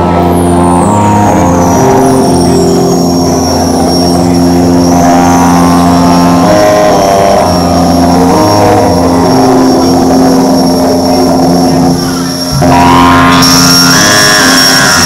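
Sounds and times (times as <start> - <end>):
experimental drone music: 0.0 - 15.0
harsh bright drone layer: 0.0 - 15.0.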